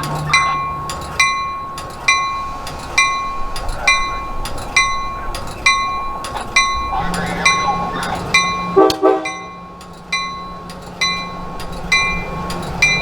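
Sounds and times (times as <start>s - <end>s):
locomotive bell ringing: 0.0s - 13.0s
train rumble: 0.0s - 13.0s.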